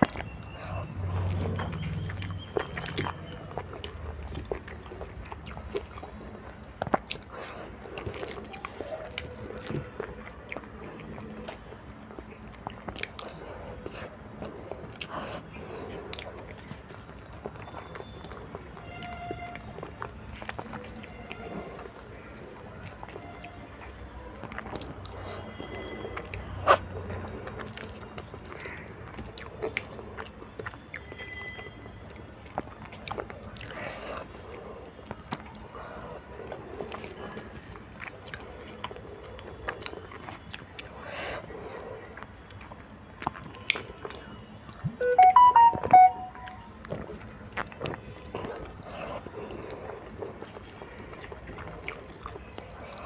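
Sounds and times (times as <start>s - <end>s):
chewing noodles: 0.0s - 44.9s, 46.8s - 53.0s.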